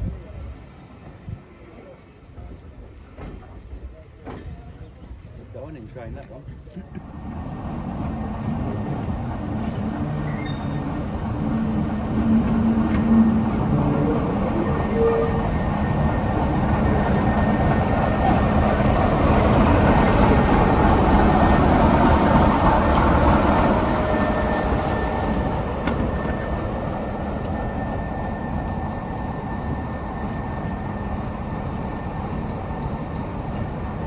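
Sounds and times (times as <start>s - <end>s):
train passing at speed: 0.0s - 34.0s.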